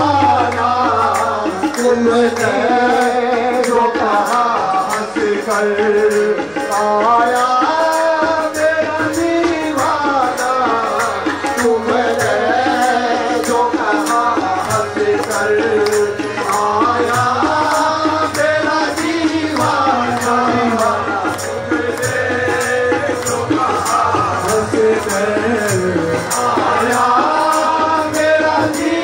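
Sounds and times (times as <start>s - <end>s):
hand drum steady beat: 0.0s - 29.0s
harmoniums playing melody: 0.0s - 29.0s
voices singing: 0.0s - 29.0s.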